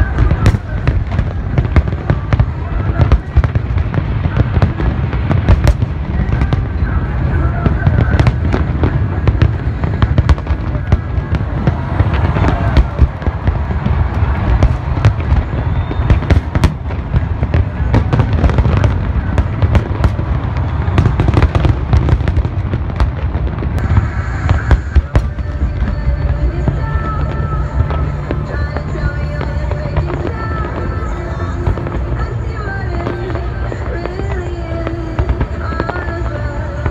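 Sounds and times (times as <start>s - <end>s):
continuous low rumble: 0.0s - 36.9s
fireworks bangs and crackles: 0.0s - 36.9s.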